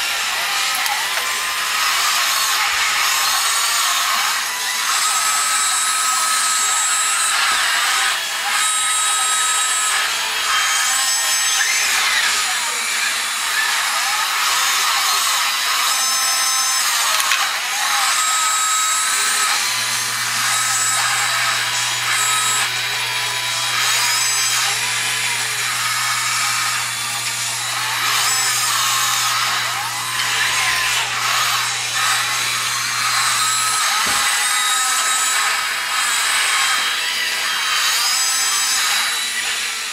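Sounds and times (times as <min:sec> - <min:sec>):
toy motors whining and grinding: 0:00.0 - 0:39.9.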